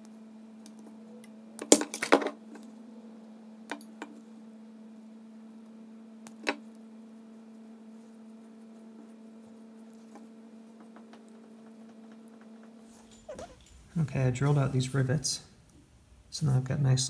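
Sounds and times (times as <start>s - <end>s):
heater humming: 0.0s - 17.0s.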